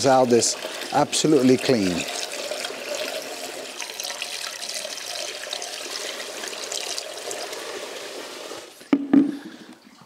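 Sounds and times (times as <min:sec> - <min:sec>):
water pouring through funnel: 0:00.0 - 0:10.0.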